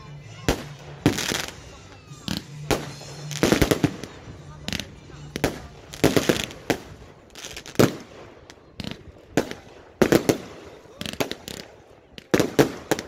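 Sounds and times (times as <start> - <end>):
fireworks bursting with echo: 0.0 - 13.0.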